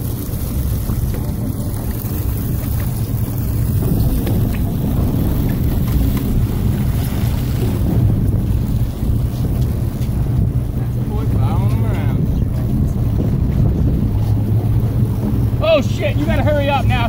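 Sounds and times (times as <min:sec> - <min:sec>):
boat engine rumble: 0:00.0 - 0:17.0
water churning along hull: 0:00.0 - 0:17.0
wind buffeting microphone: 0:00.0 - 0:17.0.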